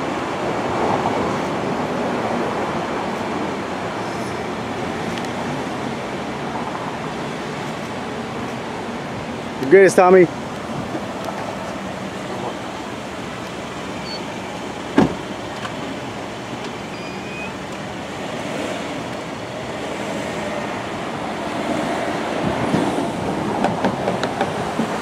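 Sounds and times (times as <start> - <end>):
street traffic noise: 0.0 - 25.0.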